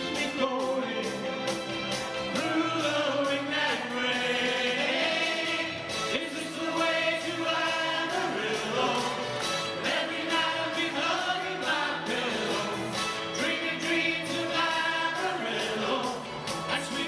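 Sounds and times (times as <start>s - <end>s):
live band playing: 0.0s - 17.0s
choir singing: 2.4s - 17.0s.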